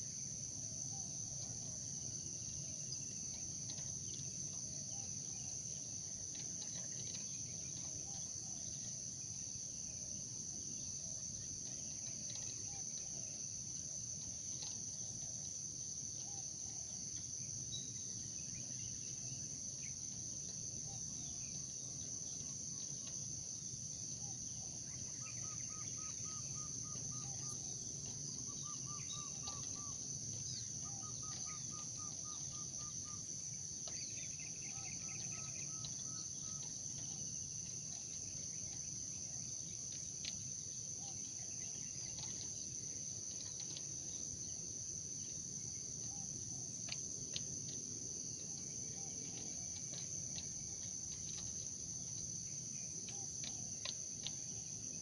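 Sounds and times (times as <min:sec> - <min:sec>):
crickets chirping: 0:00.0 - 0:55.0
rapid repeated bird calls: 0:10.7 - 0:55.0.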